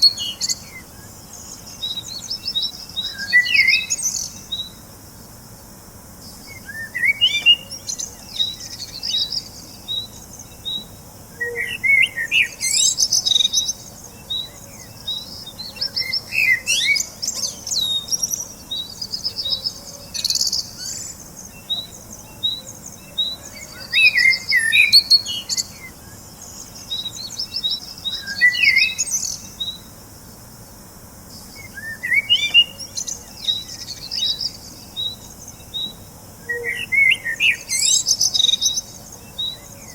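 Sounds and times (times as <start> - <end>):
birds chirping: 0.0 - 29.9, 30.6 - 39.9
birds warbling song: 0.0 - 39.9.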